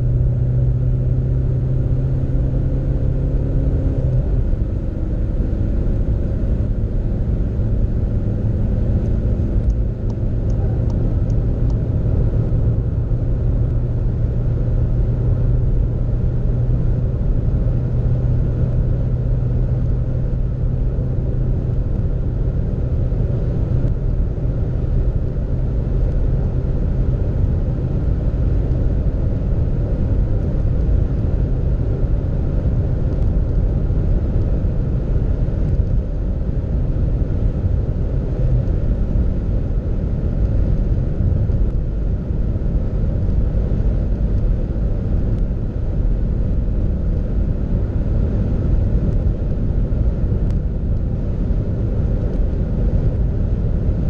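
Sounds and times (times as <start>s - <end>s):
car engine rumbling from inside: 0.0s - 54.0s.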